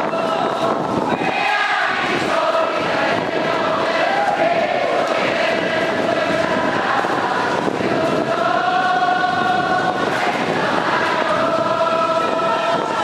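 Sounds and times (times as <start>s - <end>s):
crowd chanting: 0.0s - 13.0s
wind noise on microphone: 0.0s - 13.0s.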